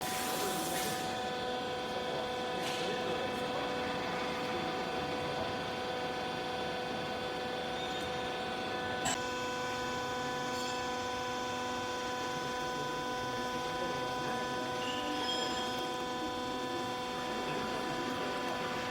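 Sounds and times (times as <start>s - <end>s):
machine motor hum with whine: 0.0s - 18.9s.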